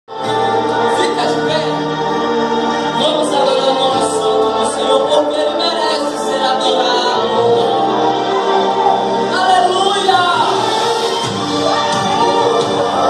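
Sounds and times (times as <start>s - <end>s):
gospel worship singing: 0.1s - 13.0s.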